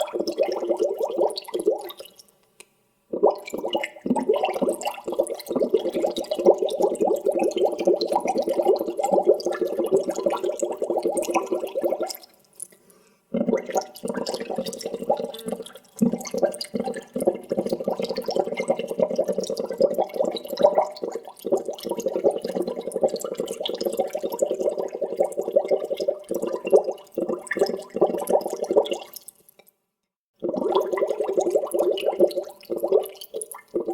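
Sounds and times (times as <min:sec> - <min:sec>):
water bubbling: 0:00.0 - 0:02.2, 0:03.1 - 0:12.2, 0:13.4 - 0:29.3, 0:30.4 - 0:33.9.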